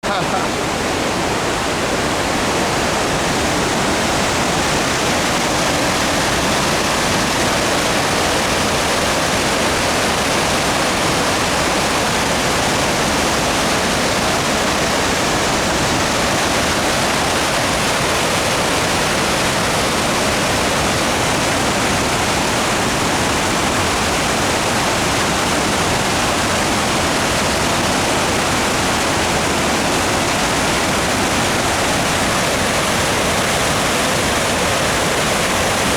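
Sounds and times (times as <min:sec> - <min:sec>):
waterfall roaring: 0:00.0 - 0:35.9.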